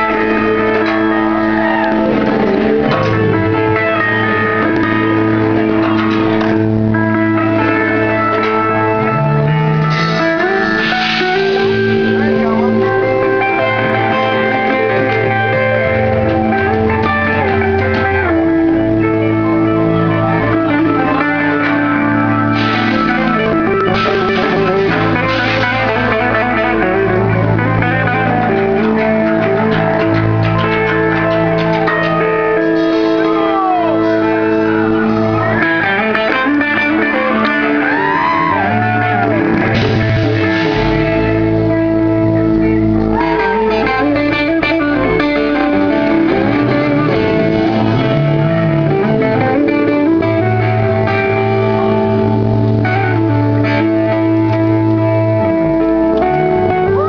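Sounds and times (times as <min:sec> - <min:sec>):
blues-rock band playing live: 0:00.0 - 0:57.0
electric guitar bending notes: 0:00.0 - 0:57.0.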